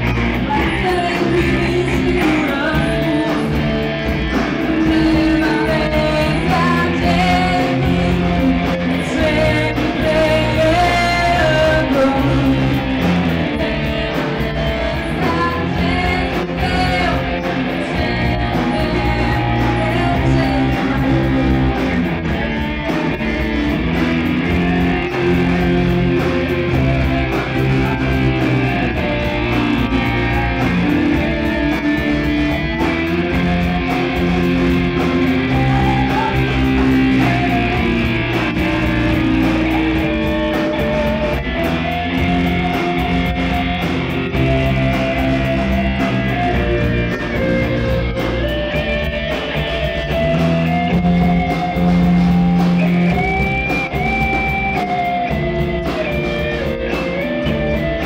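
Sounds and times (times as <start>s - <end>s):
bass guitar: 0.0s - 58.0s
drum kit beat: 0.0s - 58.0s
electric guitars: 0.0s - 58.0s.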